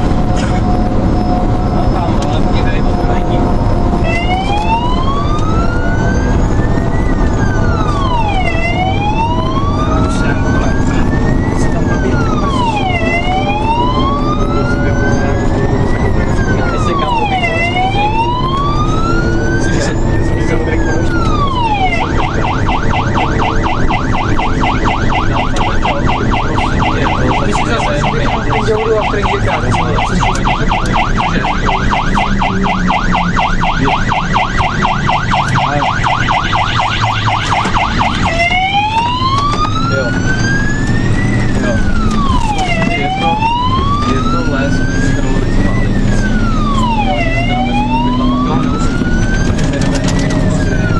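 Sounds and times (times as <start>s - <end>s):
diesel engine running: 0.0s - 50.9s
fire engine siren wailing: 0.0s - 50.9s.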